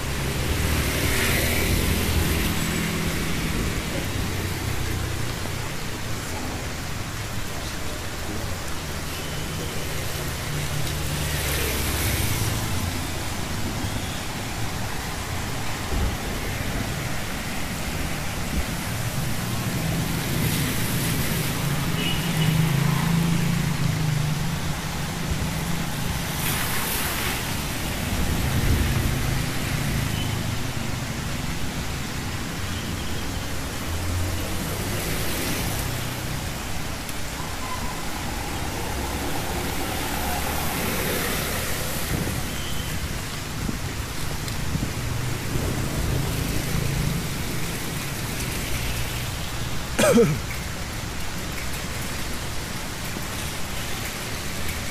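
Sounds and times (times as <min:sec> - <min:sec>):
rain on wet street: 0:00.0 - 0:54.9
tyres hissing through water: 0:00.0 - 0:54.9
vehicle engines humming: 0:00.0 - 0:54.9.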